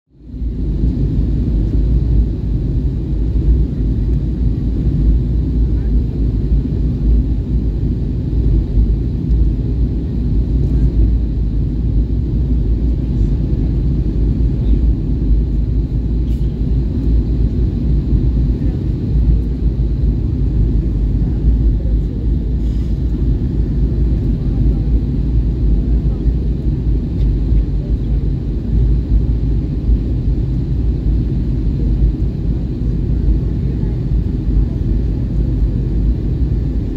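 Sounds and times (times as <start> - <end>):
airliner cabin engine rumble: 0.1 - 36.9.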